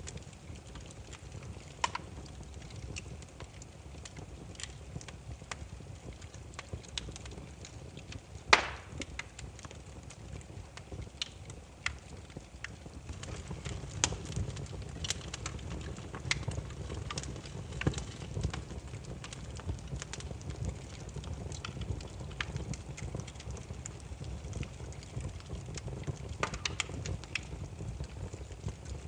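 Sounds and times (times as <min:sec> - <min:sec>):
fire pops: 0:00.0 - 0:29.0
firewood crackling: 0:00.0 - 0:29.0.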